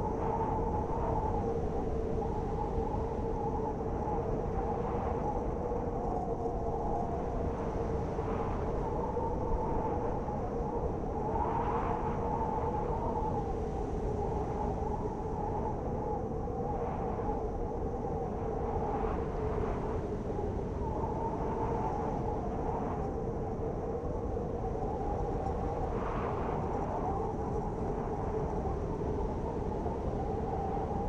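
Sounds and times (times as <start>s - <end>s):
blizzard wind howling: 0.0s - 31.0s.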